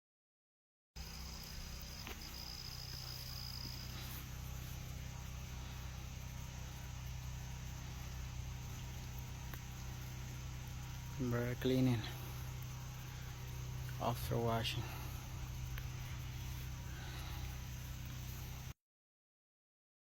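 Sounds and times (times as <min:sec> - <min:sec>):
thin high steady tone: 0:01.0 - 0:18.7
steady low hum: 0:01.0 - 0:18.8.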